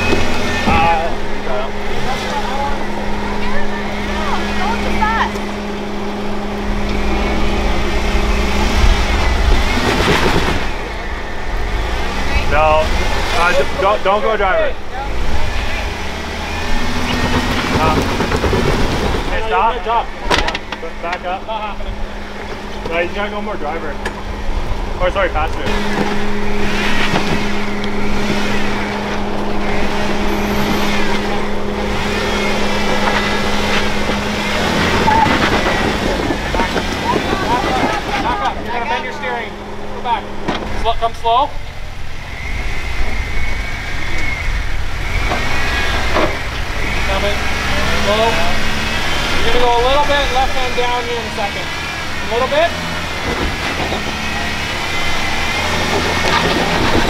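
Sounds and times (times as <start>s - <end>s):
engine rumbling under load: 0.0s - 57.0s.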